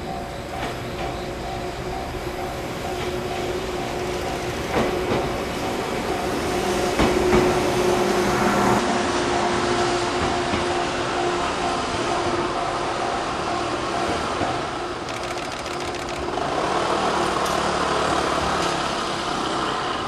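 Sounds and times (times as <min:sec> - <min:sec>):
level crossing alarm ringing: 0:00.0 - 0:08.1, 0:08.8 - 0:17.2.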